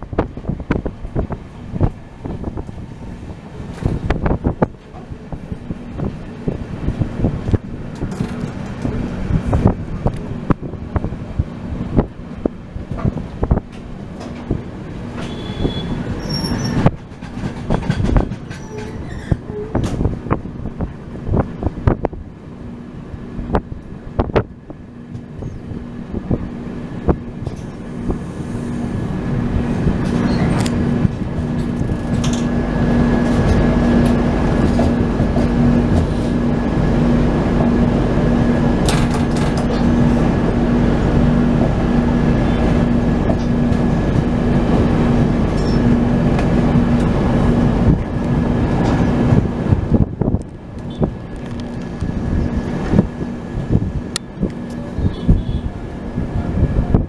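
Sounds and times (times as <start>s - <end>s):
train rumble: 0.0s - 57.0s
train wheels clicking on rail joints: 0.1s - 20.5s, 23.5s - 56.2s.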